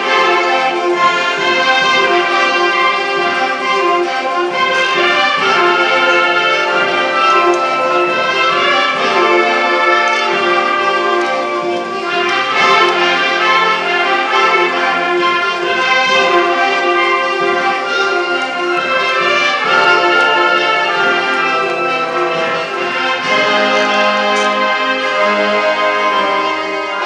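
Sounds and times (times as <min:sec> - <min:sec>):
concert band playing: 0:00.0 - 0:27.0.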